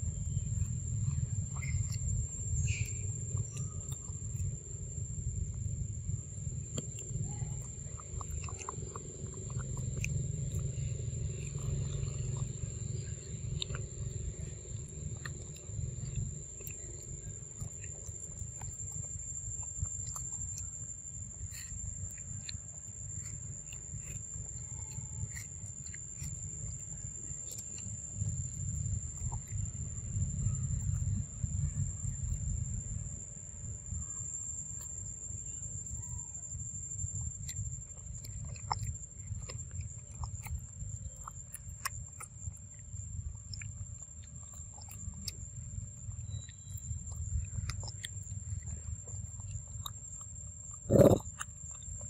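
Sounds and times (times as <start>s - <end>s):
high insect whine: 0.0s - 52.0s
monkey chewing wetly: 0.0s - 52.0s.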